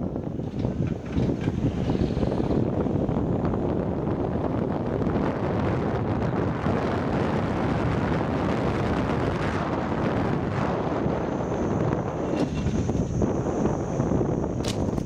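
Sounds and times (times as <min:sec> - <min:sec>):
vehicle running noise: 0:00.0 - 0:15.0
wind rumble on microphone: 0:00.0 - 0:15.0.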